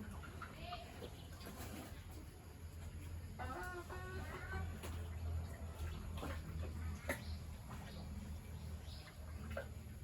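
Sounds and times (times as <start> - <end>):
farmyard animal calls: 0.0 - 10.0.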